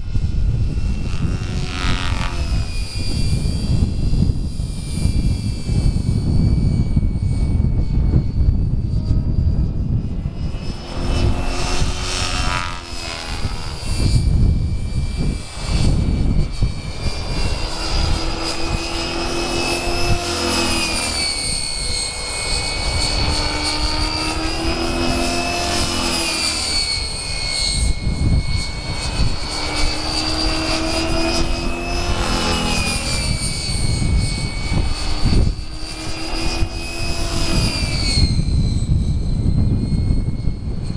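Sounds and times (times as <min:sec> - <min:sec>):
helicopter motor and rotors whining: 0:00.0 - 0:40.9.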